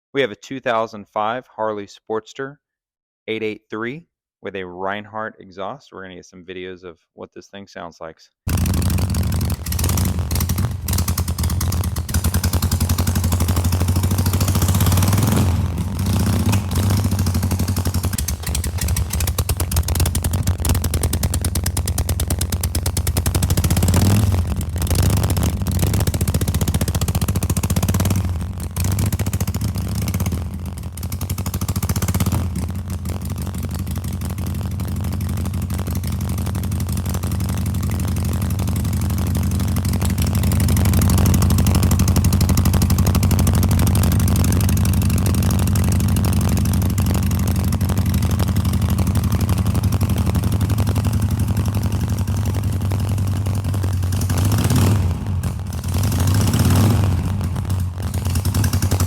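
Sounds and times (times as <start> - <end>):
motorcycle engine running: 8.5 - 59.0.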